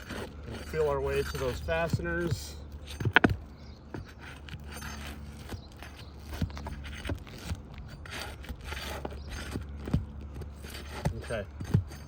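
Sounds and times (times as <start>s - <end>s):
pry bar scraping under shingle: 0.0s - 12.0s.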